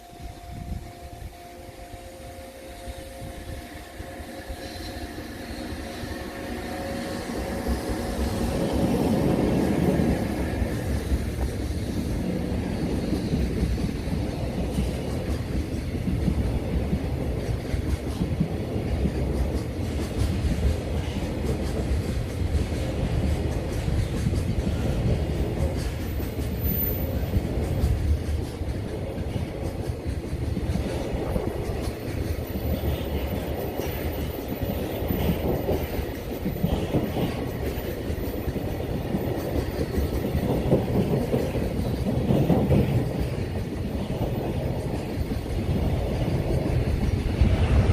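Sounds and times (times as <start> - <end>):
rail clicks: 0.0 - 47.9
wagon wheels rumbling on rails: 5.6 - 47.9.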